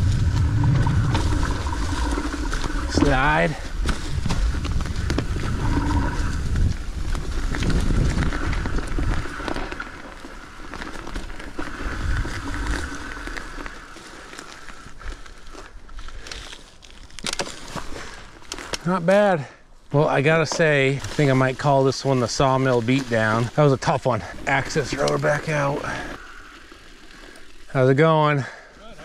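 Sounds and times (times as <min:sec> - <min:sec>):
bike tyres rolling over leaves: 0:00.0 - 0:29.0.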